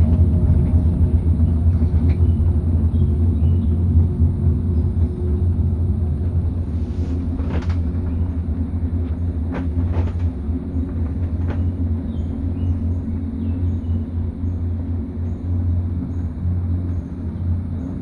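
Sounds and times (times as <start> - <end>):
cable car gondola rumbling: 0.0 - 18.0.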